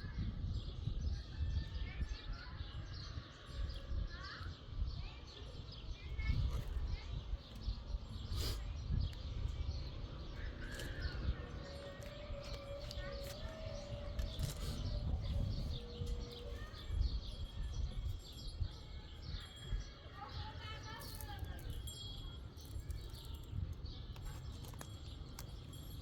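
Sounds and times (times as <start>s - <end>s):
small birds chirping: 2.1s - 26.0s.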